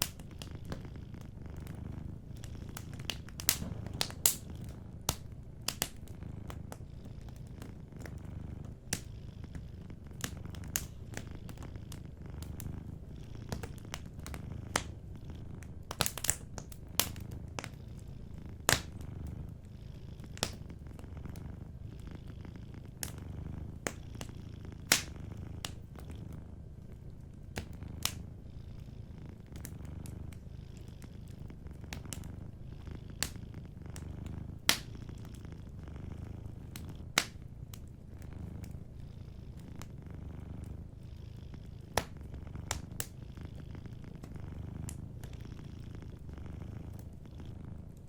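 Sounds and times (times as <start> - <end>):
wood fire crackling and popping: 0.0 - 47.2
cat purring: 0.0 - 48.0.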